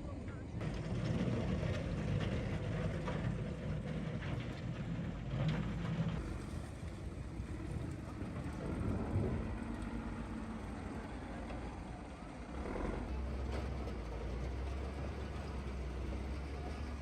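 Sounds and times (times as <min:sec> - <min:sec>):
diesel engine low rumble: 0:00.0 - 0:17.0.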